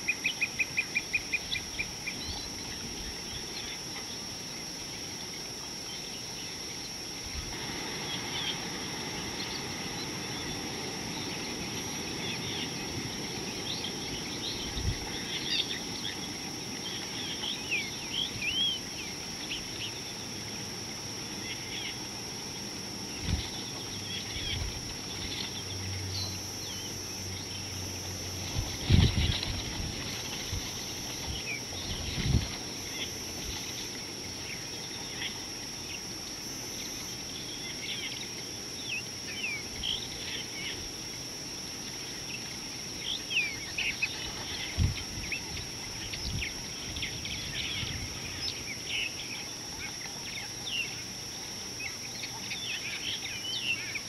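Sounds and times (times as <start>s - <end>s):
steady high-pitched tone: 0.0s - 54.0s.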